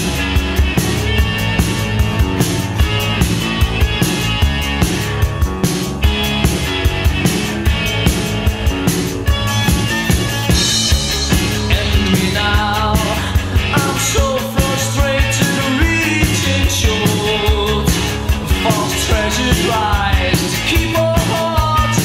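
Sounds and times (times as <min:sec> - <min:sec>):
indie rock song: 0:00.0 - 0:22.0.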